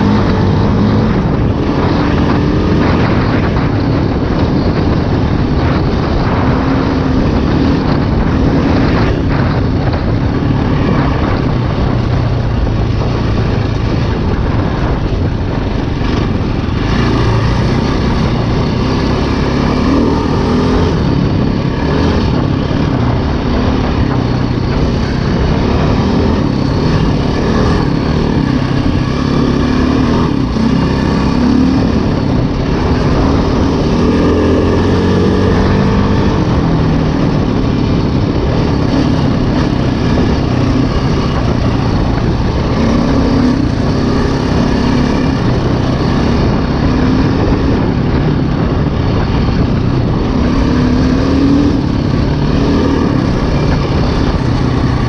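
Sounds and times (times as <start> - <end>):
dirt bike engine running: 0.0 - 55.0
wind noise on microphone: 0.0 - 55.0.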